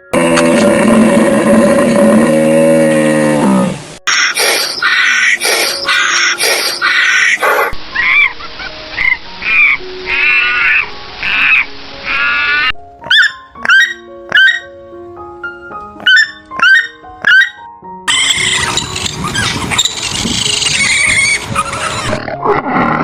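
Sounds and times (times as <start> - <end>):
background music with plucked notes: 4.2 - 23.0.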